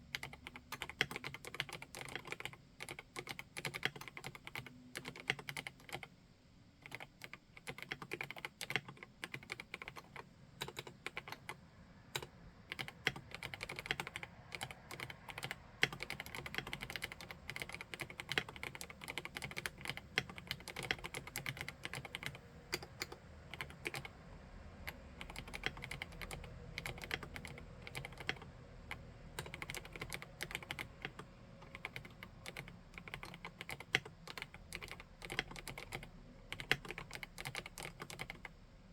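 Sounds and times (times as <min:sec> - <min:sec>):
mechanical keyboard typing: 0:00.0 - 0:06.1, 0:06.8 - 0:11.6, 0:12.2 - 0:38.6.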